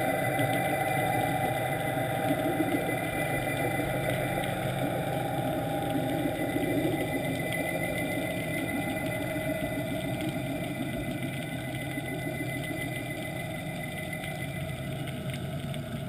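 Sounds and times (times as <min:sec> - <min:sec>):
boat engine heard underwater: 0:00.0 - 0:16.0.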